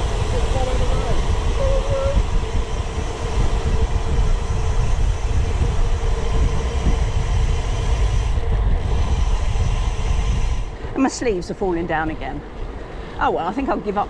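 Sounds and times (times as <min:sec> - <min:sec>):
bike tyre rumble: 0:00.0 - 0:13.9
wind buffeting microphone: 0:00.0 - 0:14.0.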